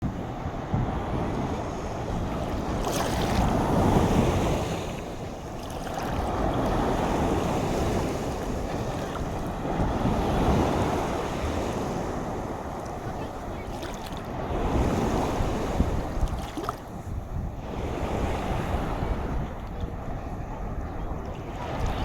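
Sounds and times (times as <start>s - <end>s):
waves breaking: 0.0s - 22.0s
wind buffeting microphone: 0.0s - 22.0s.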